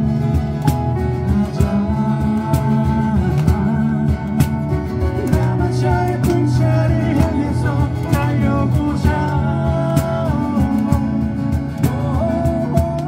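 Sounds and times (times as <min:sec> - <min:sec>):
cajon beat: 0:00.0 - 0:13.0
person singing: 0:00.0 - 0:13.0
strummed acoustic guitars: 0:00.0 - 0:13.0.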